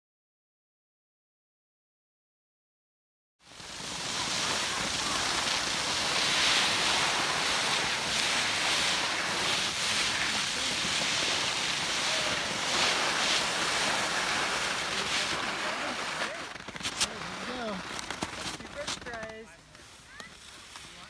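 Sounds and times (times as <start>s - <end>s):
skis sliding over packed snow: 3.4s - 21.0s.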